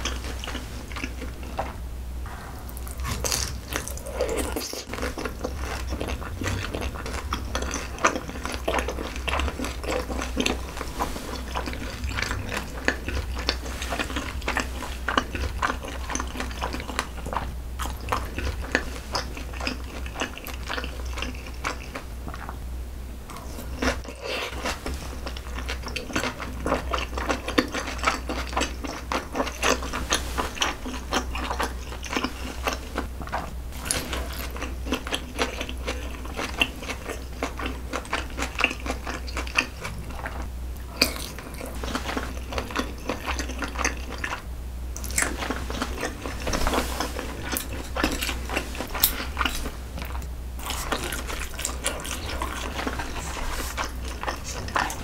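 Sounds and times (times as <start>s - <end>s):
wet chewing and mouth clicks: 0.0s - 1.8s, 2.7s - 22.6s, 23.3s - 55.0s
steady low hum: 0.0s - 55.0s.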